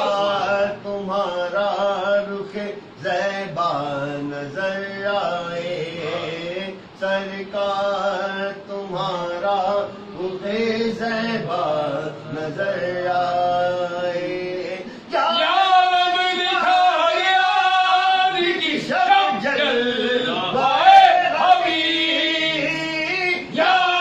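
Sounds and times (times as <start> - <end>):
voices chanting devotional poem: 0.0 - 24.0.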